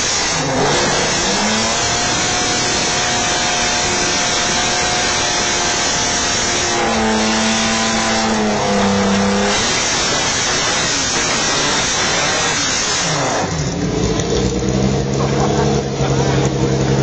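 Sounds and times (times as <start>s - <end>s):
car engine revving: 0.0s - 17.0s
rush of noise: 0.0s - 17.0s.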